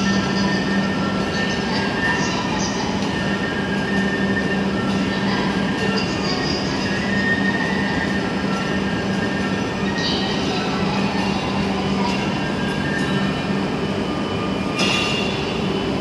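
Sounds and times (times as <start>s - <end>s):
train equipment humming: 0.0s - 16.0s.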